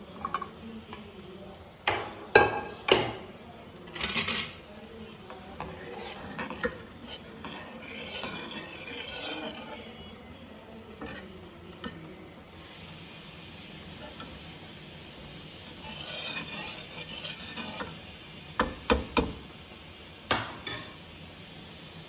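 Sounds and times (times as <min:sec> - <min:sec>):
utensils stirring stew in pot: 0:00.0 - 0:19.6.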